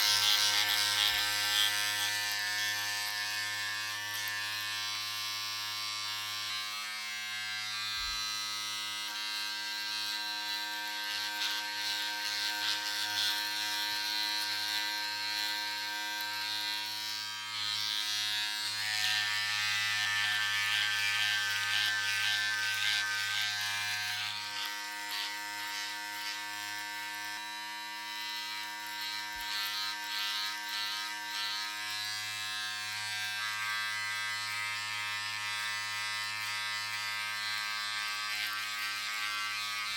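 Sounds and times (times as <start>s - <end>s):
electric razor buzzing: 0.0s - 39.9s.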